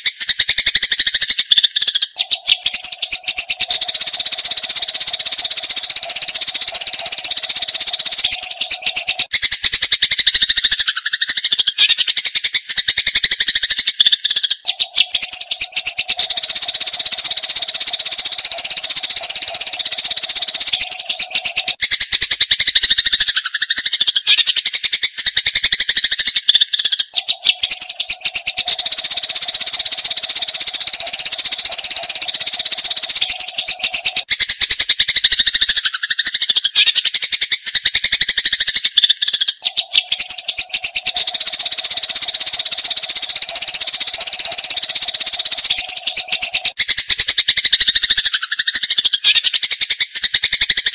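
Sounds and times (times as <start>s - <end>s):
sparrows chattering: 0.0s - 50.9s.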